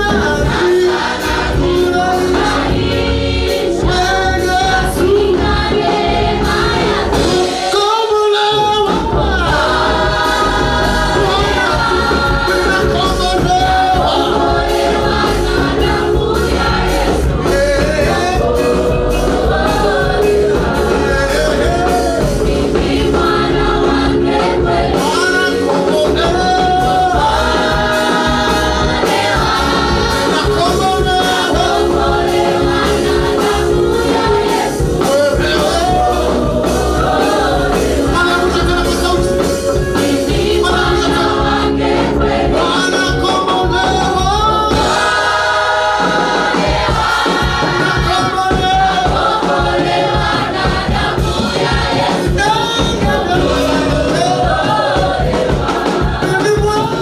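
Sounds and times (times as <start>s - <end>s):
congregation singing a hymn: 0.0s - 57.0s
instrumental backing with heavy bass: 0.0s - 57.0s.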